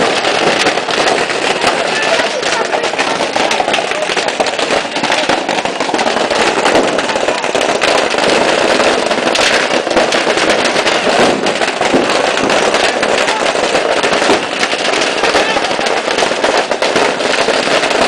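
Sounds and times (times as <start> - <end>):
firecrackers crackling: 0.0 - 18.0.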